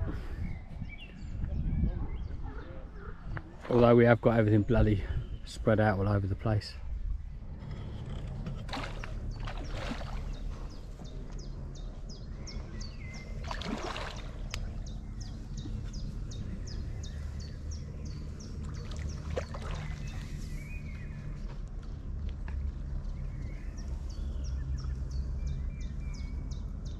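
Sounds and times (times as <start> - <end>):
wind rumbling on microphone: 0.0 - 26.9.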